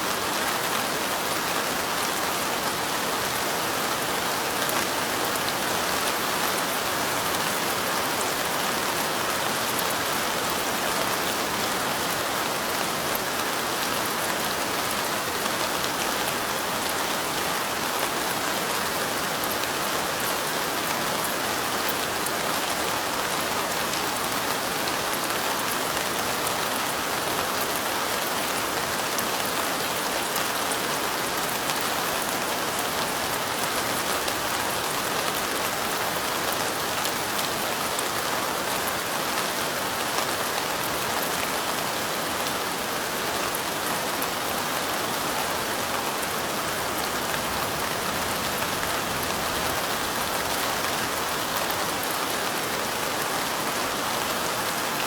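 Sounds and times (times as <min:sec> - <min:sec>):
light rain: 0:00.0 - 0:55.0.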